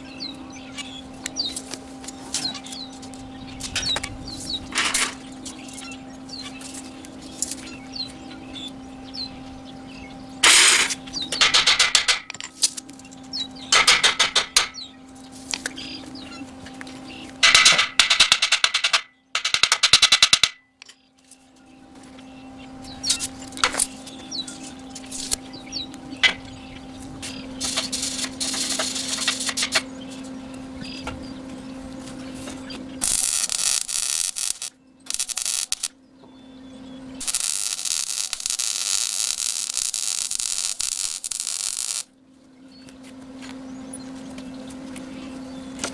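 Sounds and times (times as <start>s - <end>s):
welding arc crackle: 0.0s - 9.1s, 10.4s - 20.6s, 22.8s - 31.2s, 31.9s - 36.0s, 37.1s - 42.1s
low steady hum: 0.0s - 45.9s.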